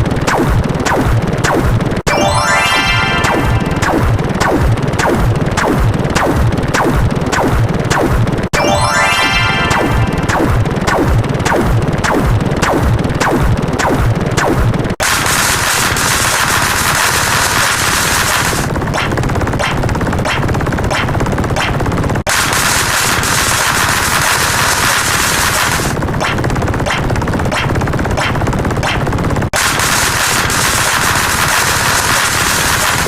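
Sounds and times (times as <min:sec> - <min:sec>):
machine-gun fire: 0:00.0 - 0:33.0.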